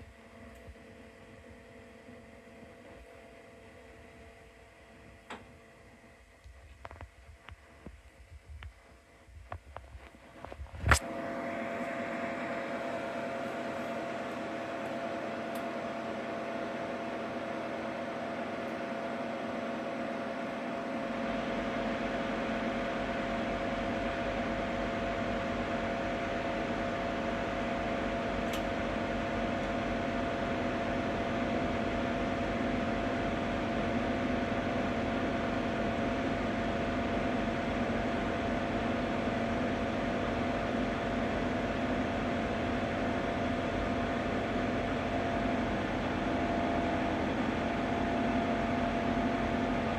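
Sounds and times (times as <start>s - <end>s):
multicooker fan whirring: 0.0s - 49.9s.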